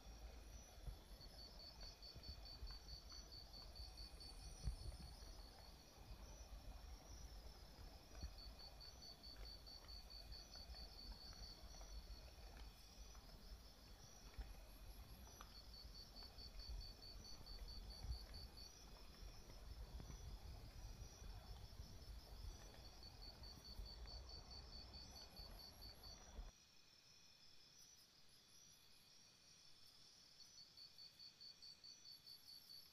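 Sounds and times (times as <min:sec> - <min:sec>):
insect chirping: 0:00.0 - 0:32.9.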